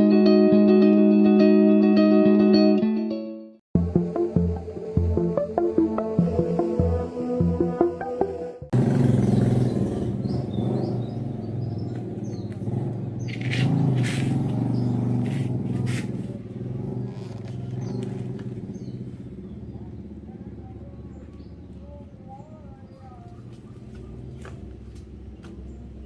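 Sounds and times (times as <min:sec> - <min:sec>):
birds chirping: 0:03.8 - 0:26.0
motor engine humming: 0:03.8 - 0:26.0.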